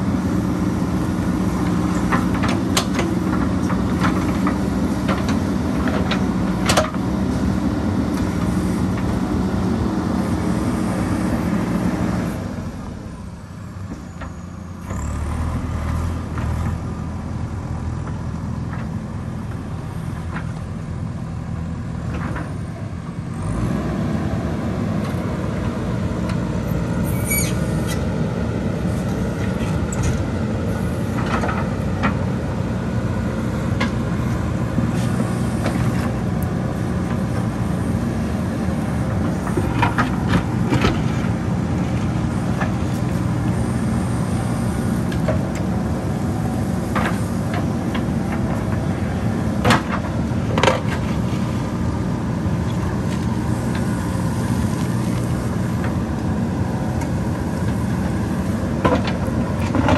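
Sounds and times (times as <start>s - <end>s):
diesel engine at high revs: 0.0s - 59.9s.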